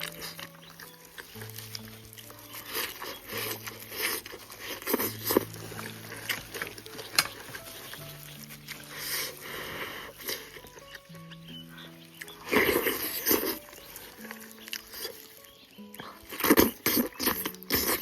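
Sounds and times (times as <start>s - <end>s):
background music with low notes: 0.0s - 18.0s
smacking and chewing: 0.0s - 18.0s.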